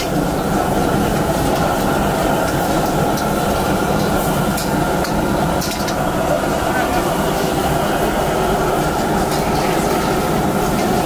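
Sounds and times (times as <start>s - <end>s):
busy street crowd noise: 0.0s - 11.0s.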